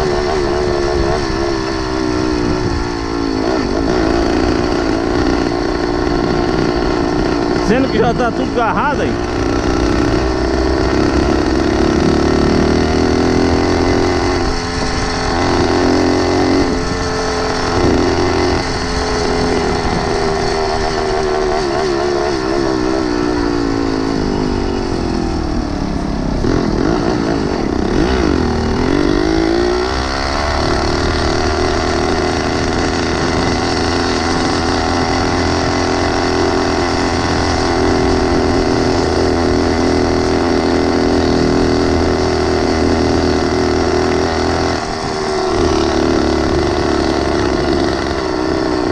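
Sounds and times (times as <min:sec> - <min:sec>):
motorized bicycle engine running: 0:00.0 - 0:48.9.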